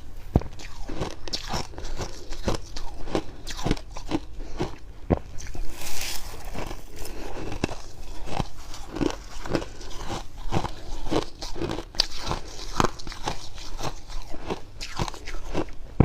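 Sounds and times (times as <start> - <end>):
chewing frost crunches: 0.4 - 15.8.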